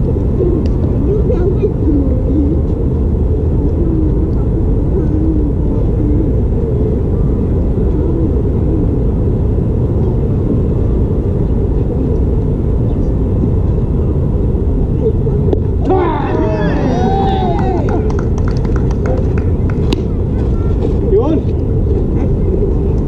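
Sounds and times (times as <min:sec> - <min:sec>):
faint distant voices: 0:00.0 - 0:23.0
steady low rumble: 0:00.0 - 0:23.0.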